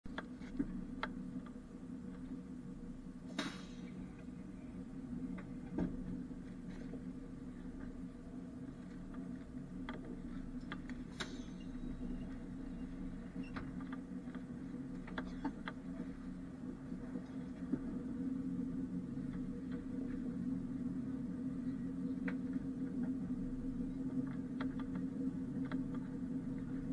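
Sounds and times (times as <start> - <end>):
train carriage running hum: 0.0 - 26.9.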